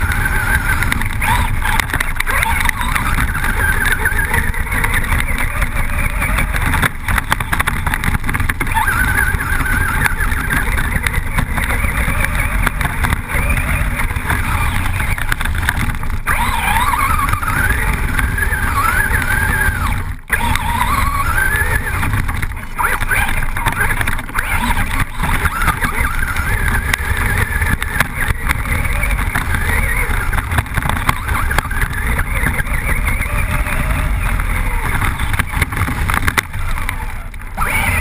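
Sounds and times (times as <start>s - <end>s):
electric motor whine: 0.0s - 38.0s
wind and rough ground rumble: 0.0s - 38.0s.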